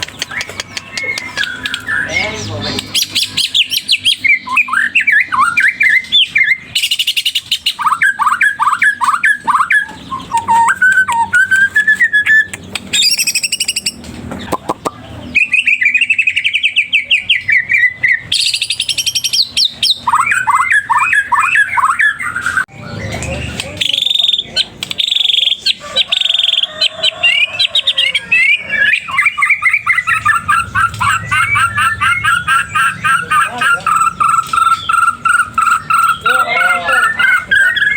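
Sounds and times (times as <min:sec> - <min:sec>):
songbird singing whistles and trills: 0:00.0 - 0:37.9.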